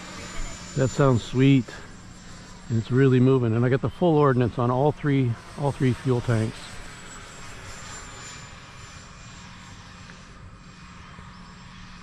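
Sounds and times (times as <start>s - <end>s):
electric ducted fan whine: 0.0s - 12.0s.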